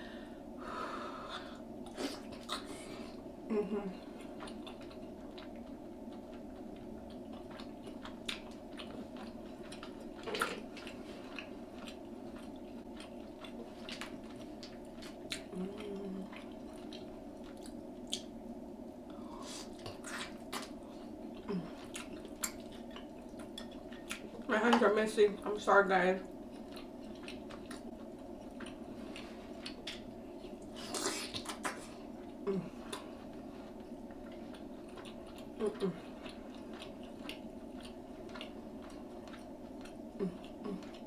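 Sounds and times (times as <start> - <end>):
low hum: 0.0 - 41.0
chewing and wet mouth sounds: 3.9 - 41.0.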